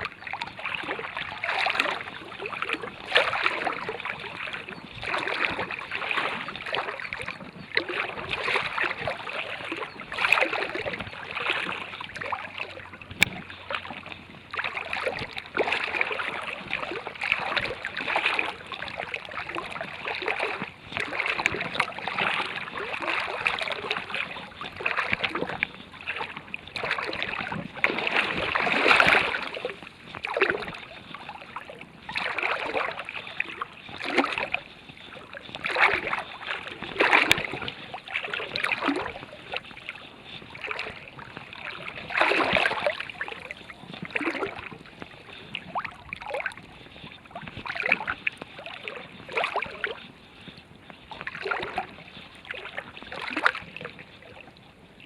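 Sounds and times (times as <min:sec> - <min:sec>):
river water sloshing and splashing: 0:00.0 - 0:55.0.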